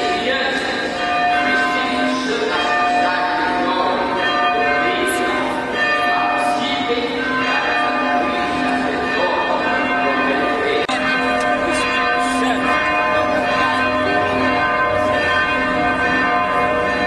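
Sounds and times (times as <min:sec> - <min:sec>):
voices murmuring: 0:00.0 - 0:16.3
church bells ringing: 0:00.0 - 0:17.0.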